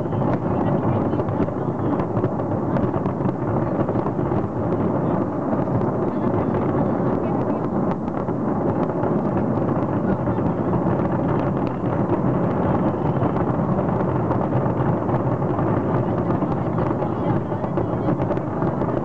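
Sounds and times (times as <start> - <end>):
fireworks booms and crackles: 0.0 - 19.0.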